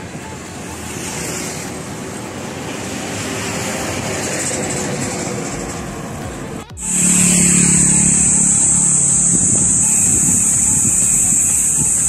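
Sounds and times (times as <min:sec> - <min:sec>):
cars passing: 0:00.0 - 0:12.0
dump truck passing: 0:00.0 - 0:12.0.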